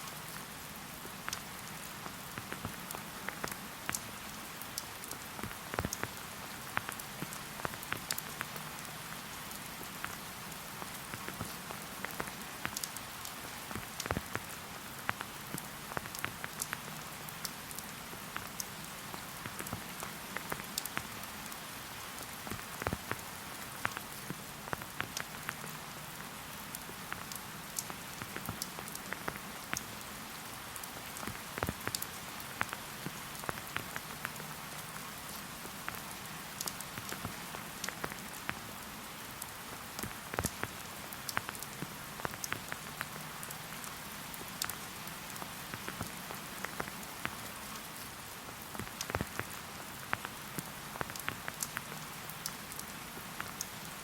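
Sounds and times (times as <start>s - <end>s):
steady rain falling: 0.0s - 54.0s
raindrops ticking sharply: 0.8s - 30.0s, 30.8s - 38.8s, 39.4s - 54.0s.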